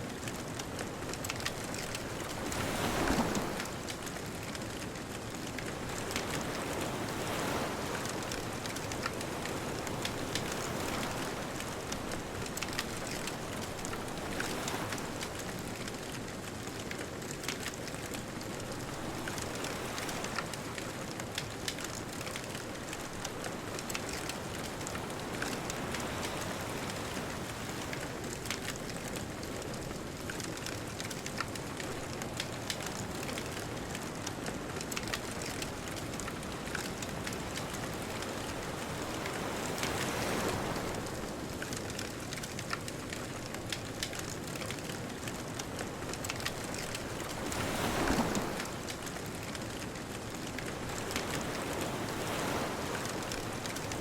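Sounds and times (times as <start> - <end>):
distant ocean surf: 0.0 - 15.9, 17.5 - 54.0
bonfire crackling and popping: 0.0 - 54.0.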